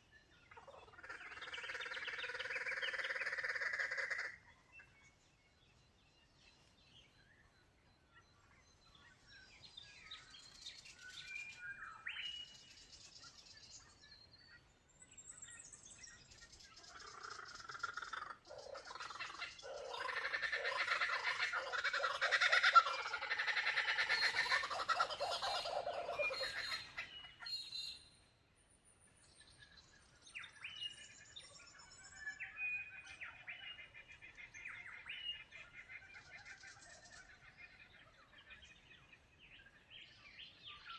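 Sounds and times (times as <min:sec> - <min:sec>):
birds singing and calling: 0:00.0 - 0:40.9.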